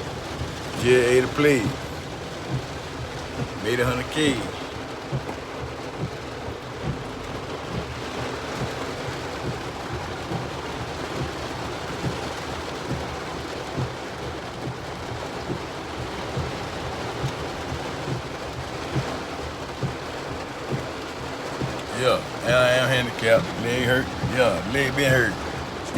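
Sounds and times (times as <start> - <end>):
heavy rain pouring: 0.0 - 25.9.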